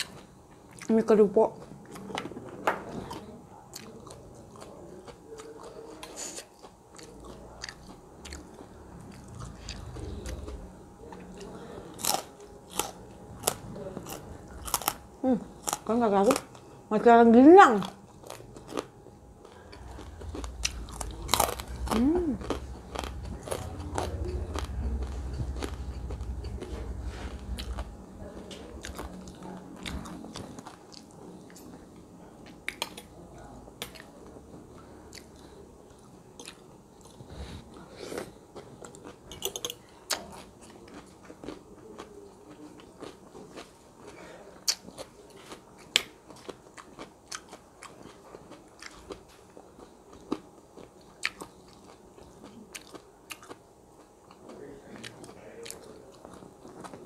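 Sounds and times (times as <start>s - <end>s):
chewing and crunching food: 0.0s - 16.8s, 17.7s - 57.0s.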